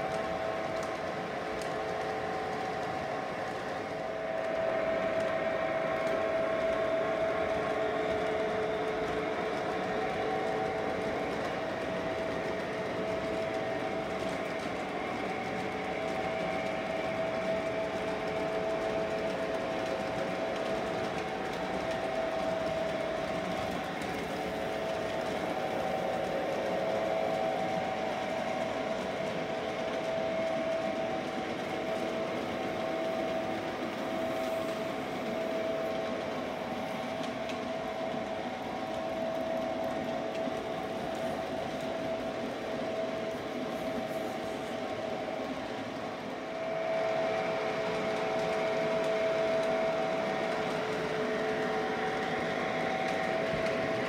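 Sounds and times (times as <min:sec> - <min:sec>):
model train motor whine: 0:00.0 - 0:54.0
wheels rumbling on rails: 0:00.0 - 0:54.0.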